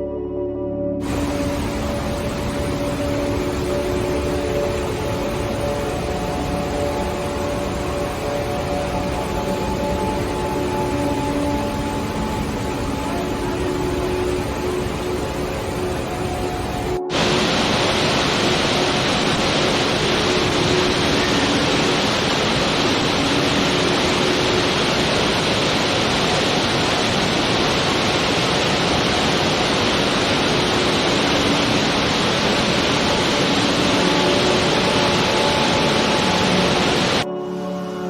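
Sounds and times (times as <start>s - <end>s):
waterfall rushing: 1.0s - 37.3s.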